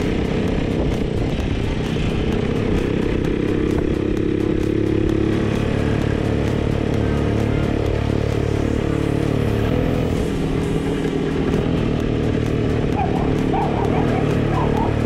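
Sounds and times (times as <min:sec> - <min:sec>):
two-stroke motorcycle engines: 0:00.0 - 0:15.0.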